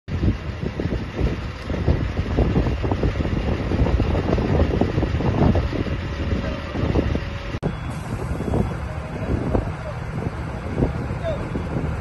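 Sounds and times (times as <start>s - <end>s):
fire truck engine rumbling: 0.1s - 12.0s
wind buffeting microphone: 0.1s - 12.0s.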